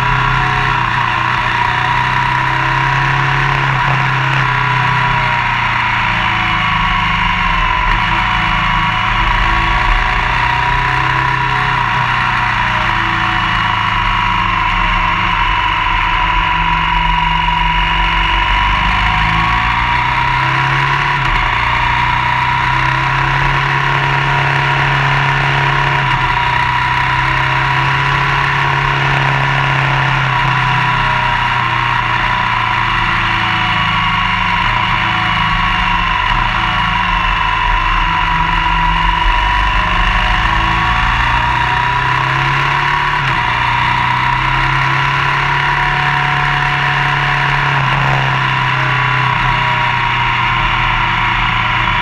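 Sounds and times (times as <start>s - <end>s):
motorcycle engine: 0.0s - 52.0s
tyre noise on road: 0.0s - 52.0s.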